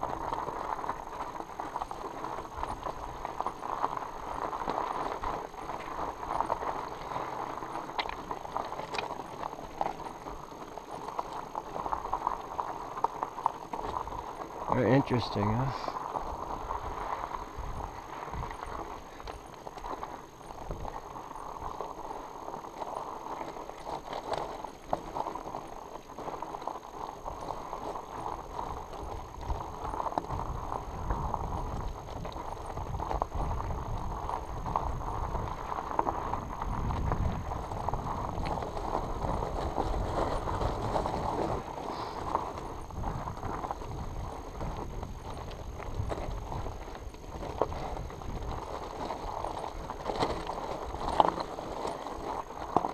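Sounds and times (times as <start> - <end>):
bike tyres crunching on gravel: 0.0 - 52.9.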